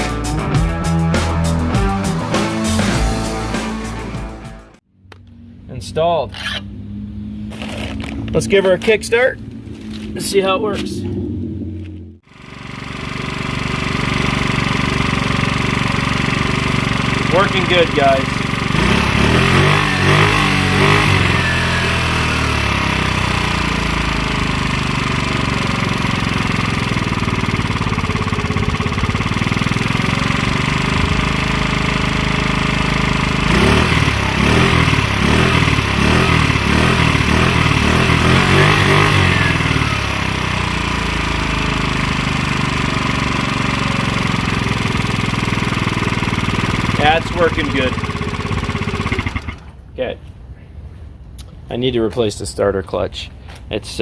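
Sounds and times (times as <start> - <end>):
scooter engine revving: 0.0 - 4.8, 6.4 - 49.9.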